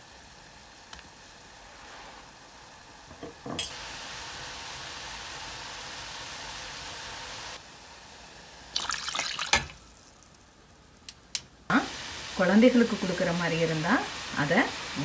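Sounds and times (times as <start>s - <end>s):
liquid sizzling in a pan: 0.0s - 15.0s.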